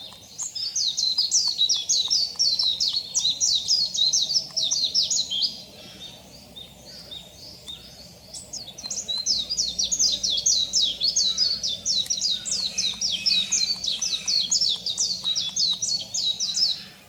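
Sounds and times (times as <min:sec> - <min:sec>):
bird singing high warble: 0:00.0 - 0:17.0.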